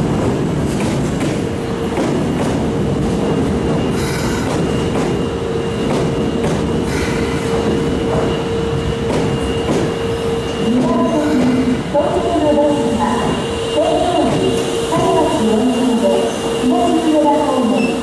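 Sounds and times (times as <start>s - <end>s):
subway train rumble: 0.0s - 18.0s
train whine: 0.0s - 18.0s.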